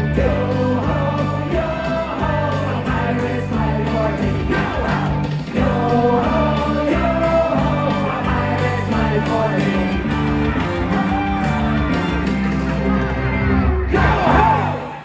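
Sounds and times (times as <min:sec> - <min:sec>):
live rock band playing: 0:00.0 - 0:14.6.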